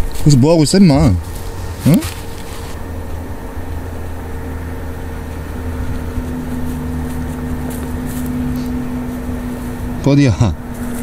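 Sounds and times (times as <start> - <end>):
motor humming: 0.8 - 11.0.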